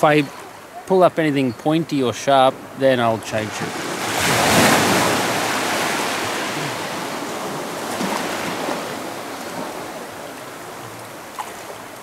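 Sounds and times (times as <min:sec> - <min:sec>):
small waves washing on sand: 0:00.0 - 0:12.0.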